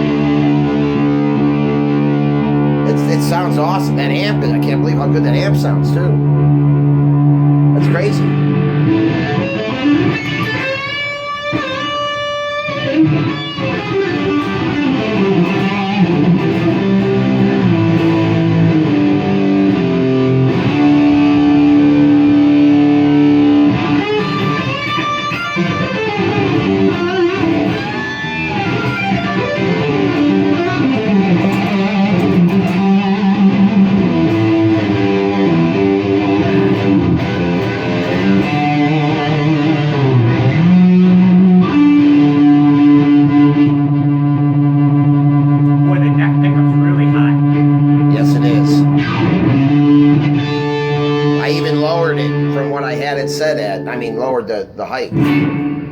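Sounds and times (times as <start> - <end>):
electric guitar lead lines: 0.0 - 55.9.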